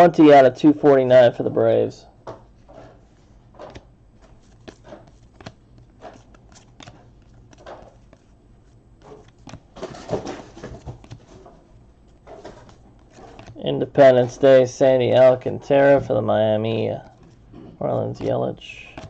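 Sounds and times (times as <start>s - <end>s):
trading cards rustling and tapping: 2.3s - 19.0s.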